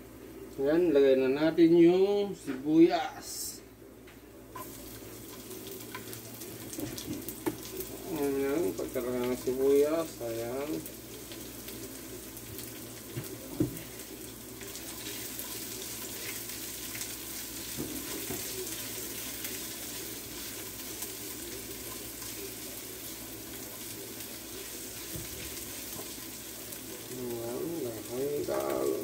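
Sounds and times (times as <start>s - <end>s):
onions sizzling in hot oil: 4.5s - 29.0s.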